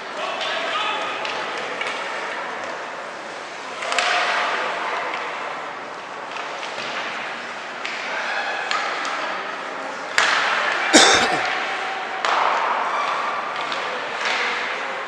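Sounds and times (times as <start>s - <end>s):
murmur of crowd voices: 0.0s - 15.0s.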